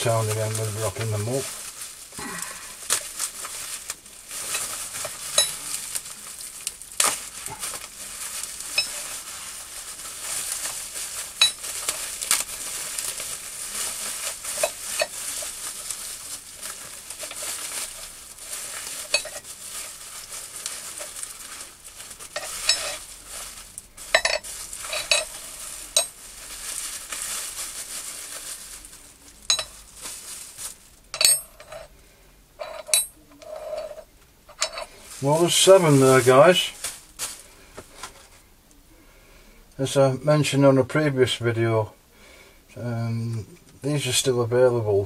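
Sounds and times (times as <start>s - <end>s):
plastic wrap crinkling: 0.0s - 31.9s, 32.8s - 38.4s.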